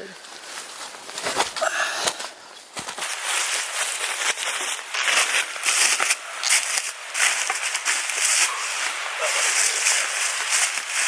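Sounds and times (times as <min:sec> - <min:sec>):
footsteps crunching through dry leaves: 0:00.0 - 0:11.0.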